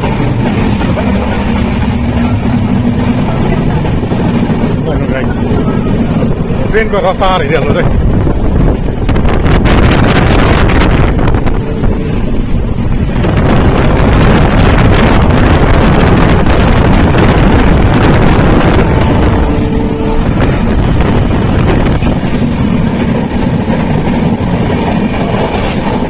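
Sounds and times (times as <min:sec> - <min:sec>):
train wheels rumbling on track: 0:00.0 - 0:26.0
wind buffeting microphone: 0:00.0 - 0:26.0.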